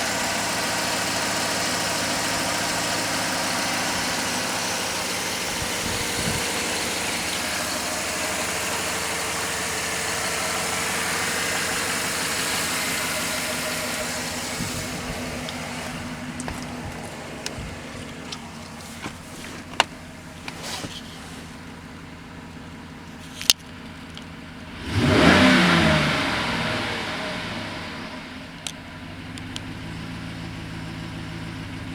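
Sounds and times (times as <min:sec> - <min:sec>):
car engine running: 0:00.0 - 0:31.9.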